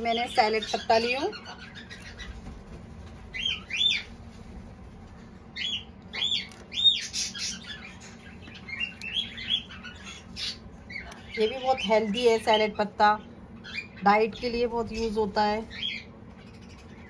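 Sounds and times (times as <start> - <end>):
bird chirping: 0.1 - 2.5, 3.3 - 4.1, 5.5 - 17.0.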